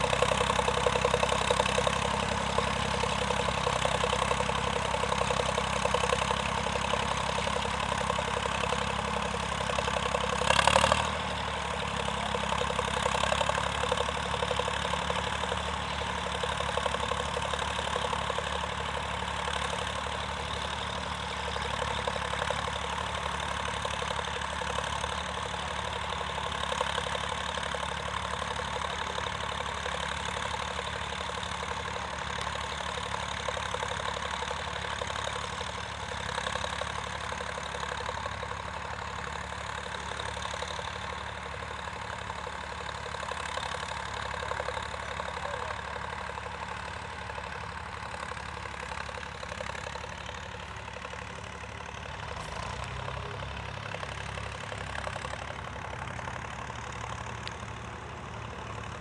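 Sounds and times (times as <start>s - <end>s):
tractor engine clattering: 0.0s - 59.0s.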